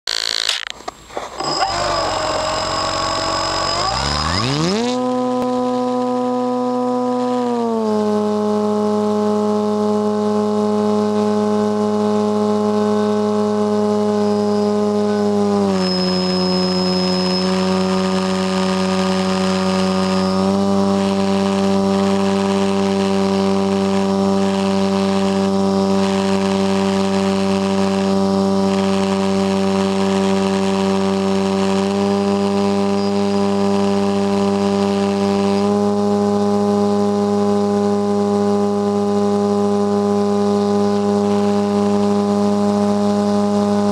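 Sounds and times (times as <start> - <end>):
model airplane motor droning: 0.1 - 43.9.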